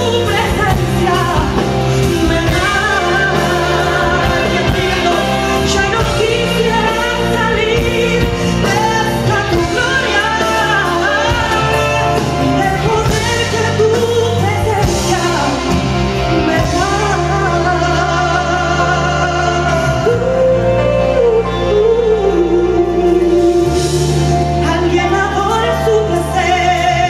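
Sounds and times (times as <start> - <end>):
instrumental accompaniment with bass: 0.0 - 27.0
woman singing into a microphone: 0.0 - 27.0.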